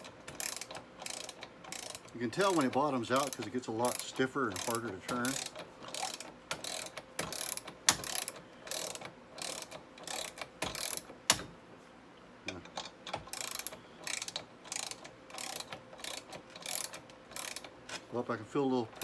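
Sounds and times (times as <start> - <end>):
ratchet wrench clicking: 0.0 - 11.4, 12.7 - 18.0.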